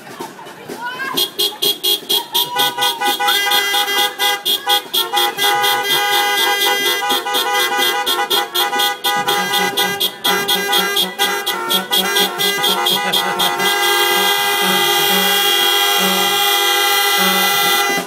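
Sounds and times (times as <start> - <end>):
car horns tooting a tune: 1.0 - 18.0
low-pitched car horn: 1.2 - 18.0.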